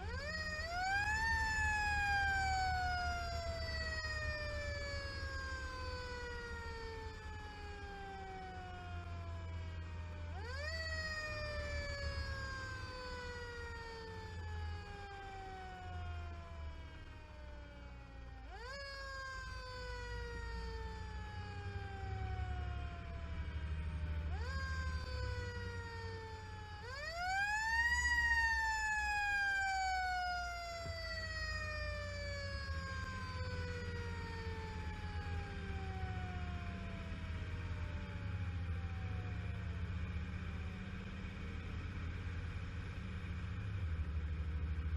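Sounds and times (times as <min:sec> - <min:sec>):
fire engine siren wailing: 0:00.0 - 0:44.9
fire truck engine rumble: 0:00.0 - 0:44.9.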